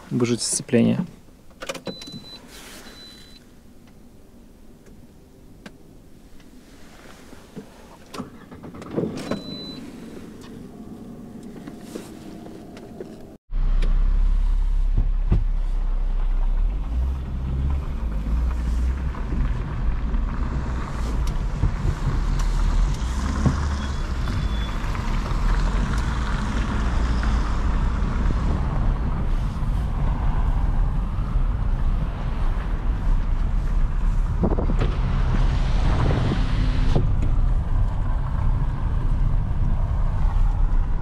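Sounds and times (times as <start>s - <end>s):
car engine running steadily: 0.0s - 41.0s.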